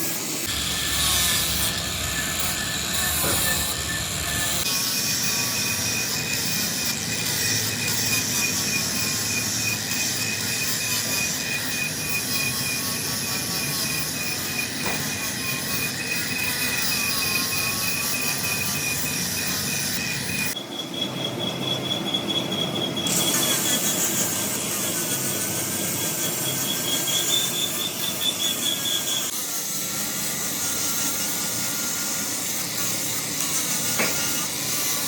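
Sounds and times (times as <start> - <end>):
high-pitched squeal: 0.0 - 29.4
lathe cutting metal: 0.0 - 35.0.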